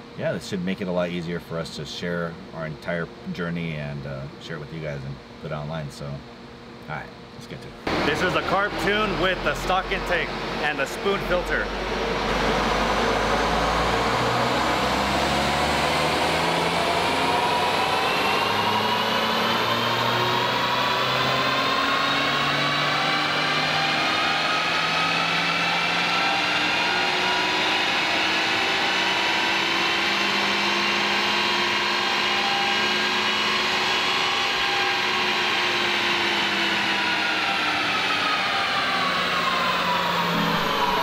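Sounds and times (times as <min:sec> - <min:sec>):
car engine at full throttle: 0:07.8 - 0:41.0.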